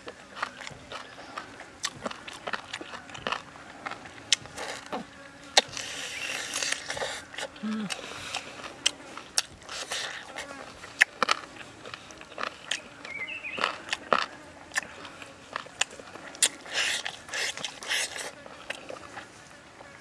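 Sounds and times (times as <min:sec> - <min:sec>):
lip smacks and sucking: 0:00.0 - 0:12.9, 0:13.6 - 0:19.3
person chewing meat off bone: 0:00.0 - 0:20.0.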